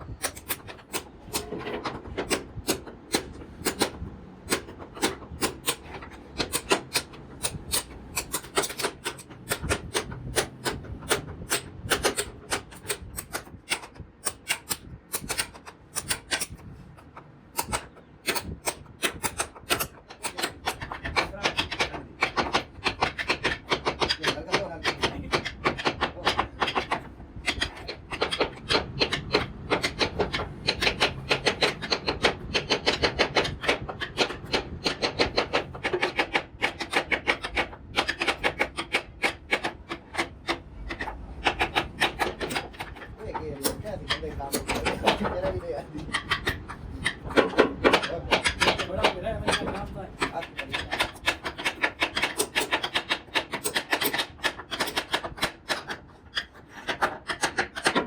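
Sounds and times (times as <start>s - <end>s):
hand tool scraping wood: 0.0s - 58.0s.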